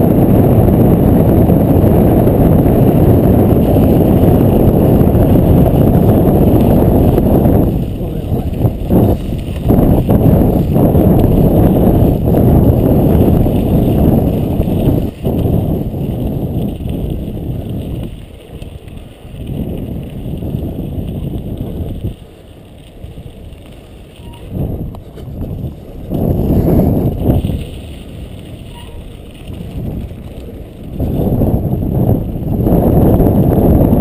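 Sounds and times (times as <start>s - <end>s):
tyres rolling on dirt road: 0.0s - 34.0s
wind on microphone: 0.0s - 34.0s.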